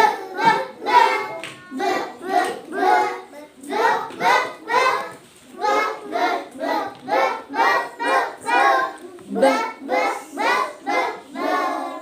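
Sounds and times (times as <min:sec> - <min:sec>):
child singing: 0:00.0 - 0:12.0.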